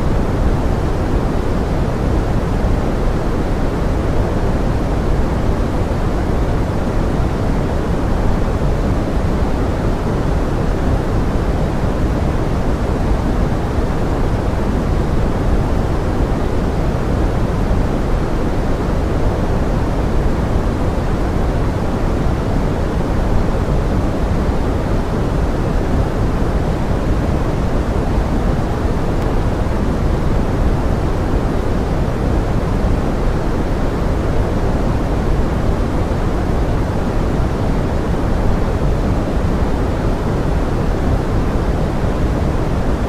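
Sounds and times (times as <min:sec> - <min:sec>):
steady pink noise hiss: 0:00.0 - 0:43.0.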